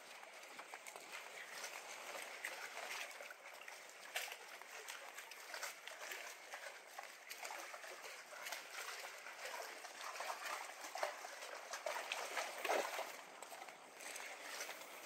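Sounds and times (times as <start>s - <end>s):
water lapping around pilings: 0.0s - 15.0s
water sloshing: 0.0s - 15.0s.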